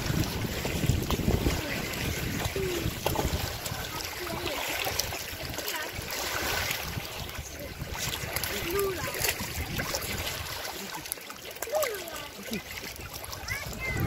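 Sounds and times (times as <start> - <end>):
water lapping over pebbles: 0.0 - 14.0.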